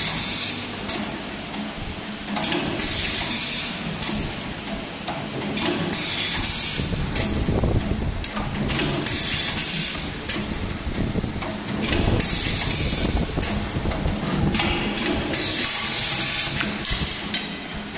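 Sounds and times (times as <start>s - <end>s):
mechanical clatter: 0.0s - 17.9s.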